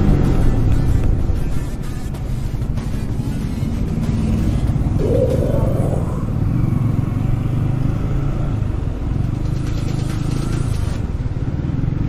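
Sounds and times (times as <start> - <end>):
road noise rush: 0.0 - 12.0.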